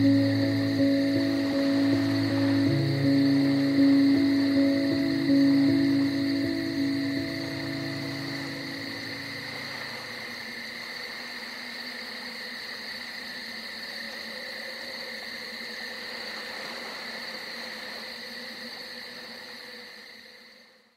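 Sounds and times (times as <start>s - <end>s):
insects droning at night: 0.0s - 20.9s.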